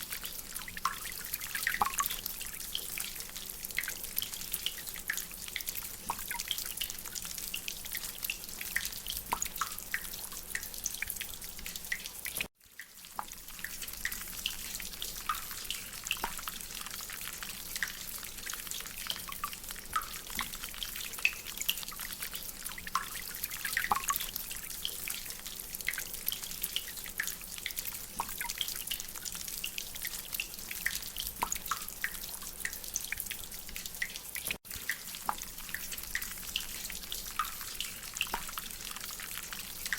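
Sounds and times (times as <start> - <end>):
steady hiss of rain: 0.0 - 39.9
water dripping from drainpipe: 0.0 - 39.9.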